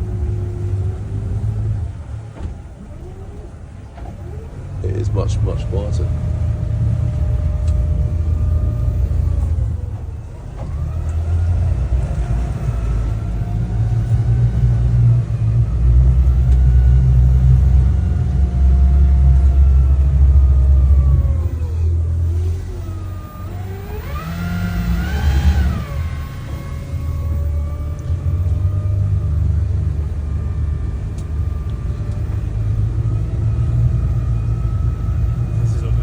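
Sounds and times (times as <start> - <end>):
engine whine gliding in pitch: 0.0 - 36.0
outboard engines rumbling: 0.0 - 36.0.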